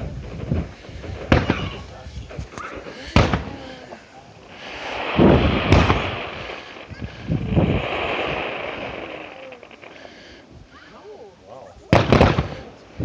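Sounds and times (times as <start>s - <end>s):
fireworks bangs and booms: 0.0s - 11.0s, 11.8s - 13.0s
fireworks crackling hiss: 0.0s - 13.0s.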